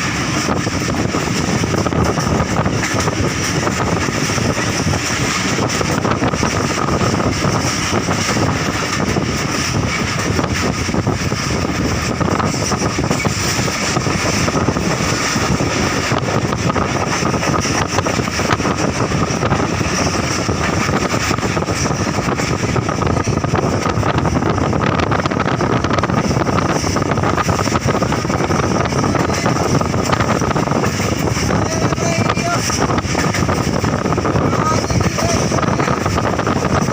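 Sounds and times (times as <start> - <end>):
train carriage rumbling on track: 0.0 - 36.9
wind rushing past microphone: 0.0 - 36.9.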